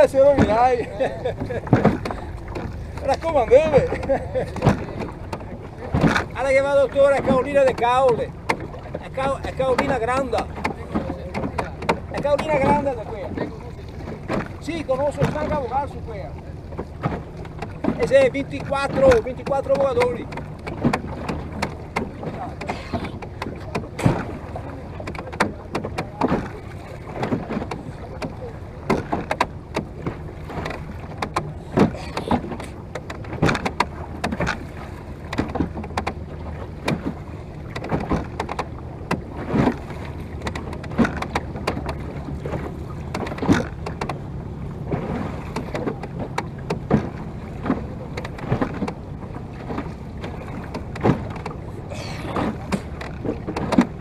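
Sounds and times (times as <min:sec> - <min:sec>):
oar knocks and splashes: 0:00.0 - 0:54.0
water slapping against boat: 0:00.0 - 0:54.0.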